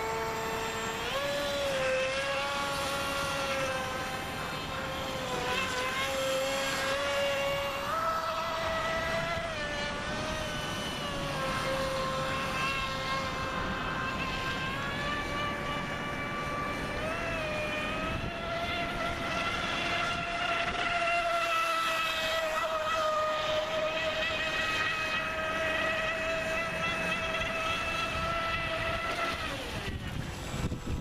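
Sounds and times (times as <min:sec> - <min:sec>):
model boat motor whining: 0:00.0 - 0:31.0.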